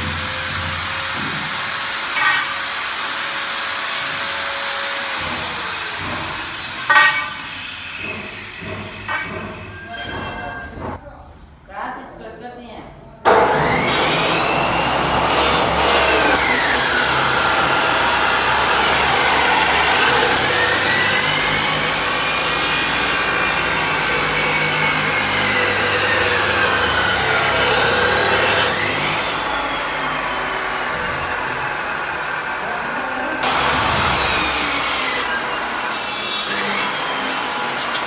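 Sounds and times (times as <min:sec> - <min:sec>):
saw grinding through steel: 0:00.0 - 0:10.5, 0:13.3 - 0:38.0.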